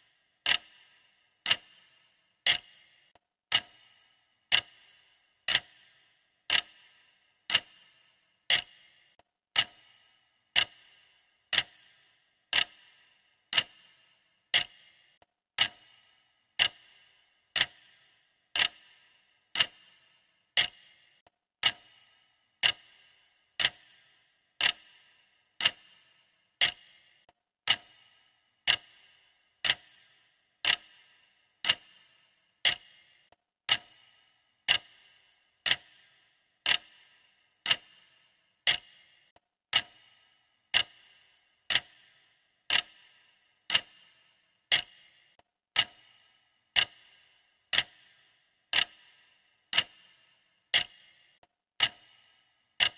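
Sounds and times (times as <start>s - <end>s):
clock ticking: 0.0s - 52.9s.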